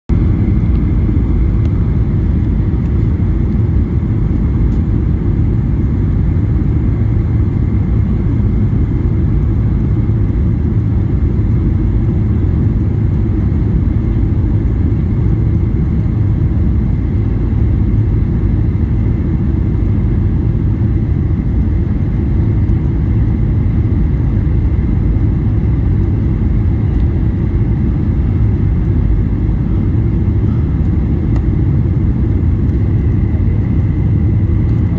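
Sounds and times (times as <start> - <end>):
airplane engine rumble in cabin: 0.1 - 34.9.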